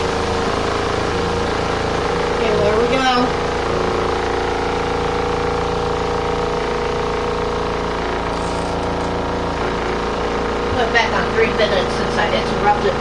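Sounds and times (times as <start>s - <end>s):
washing machine spinning: 0.0s - 13.0s.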